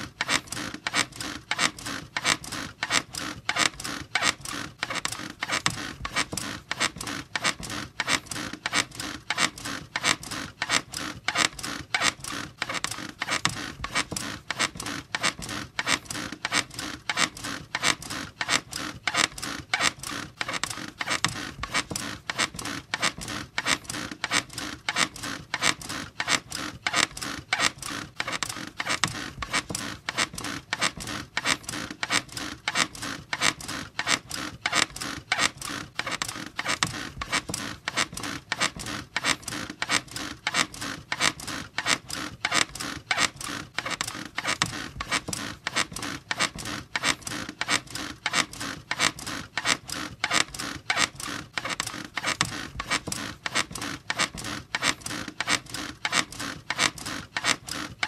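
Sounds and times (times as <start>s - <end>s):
bed creaking rhythmically: 0.0s - 58.0s.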